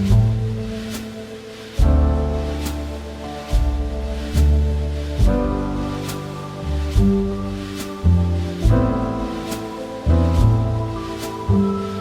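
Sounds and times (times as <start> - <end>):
jazz music: 0.0 - 12.0.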